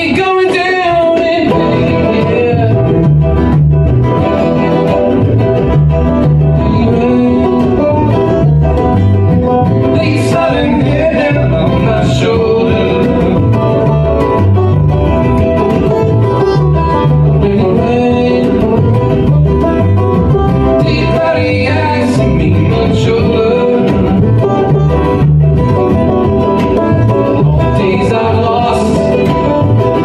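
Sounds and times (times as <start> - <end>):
bluegrass band playing: 0.0 - 30.0.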